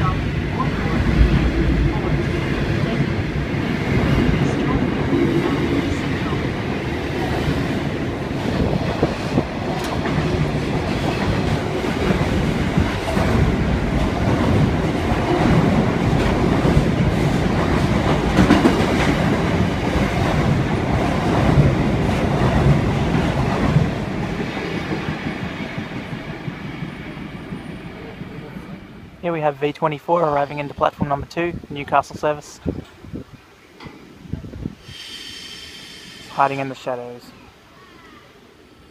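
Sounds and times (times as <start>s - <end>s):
train rumbling past: 0.0s - 29.4s, 34.5s - 37.4s.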